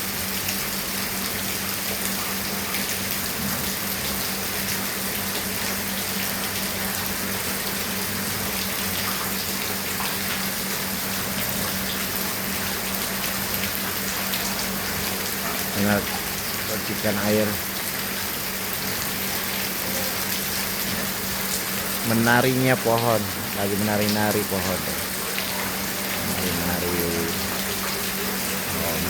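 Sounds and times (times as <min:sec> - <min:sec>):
rain falling steadily: 0:00.0 - 0:29.0.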